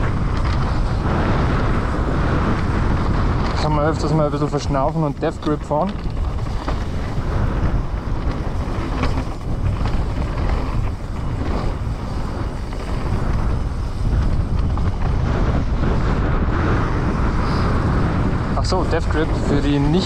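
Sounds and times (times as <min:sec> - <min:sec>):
tyres rolling over dirt: 0:00.0 - 0:17.0
wind on microphone: 0:00.0 - 0:20.0.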